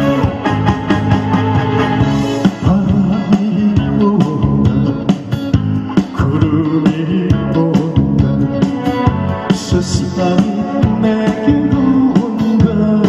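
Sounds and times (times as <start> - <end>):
guitar music with steady beat: 0.0 - 13.0.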